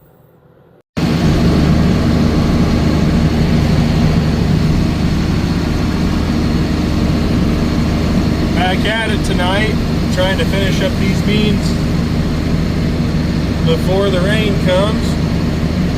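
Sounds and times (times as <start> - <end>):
heavy machinery engine running: 1.0 - 15.9.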